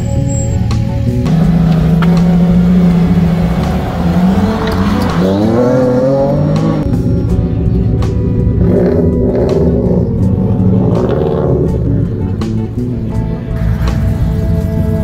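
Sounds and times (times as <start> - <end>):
car engine droning and revving: 0.0 - 15.0.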